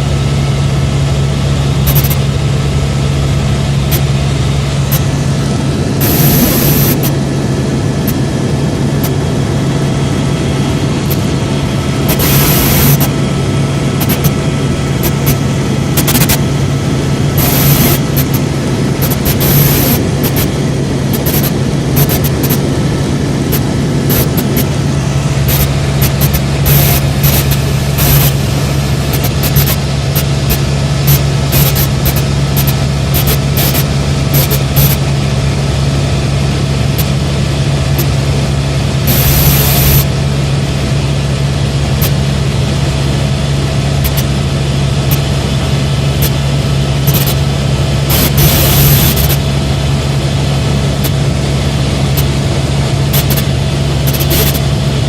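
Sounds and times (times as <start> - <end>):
helicopter rotor and turbine drone: 0.0 - 55.0.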